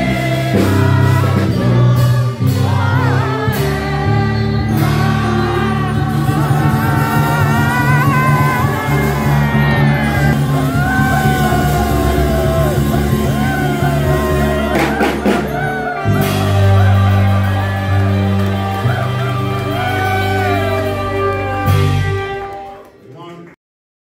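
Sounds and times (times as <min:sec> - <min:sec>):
congregation singing a hymn: 0:00.0 - 0:22.7
crowd shouting: 0:00.0 - 0:22.9
instrumental accompaniment with deep bass: 0:00.0 - 0:23.0.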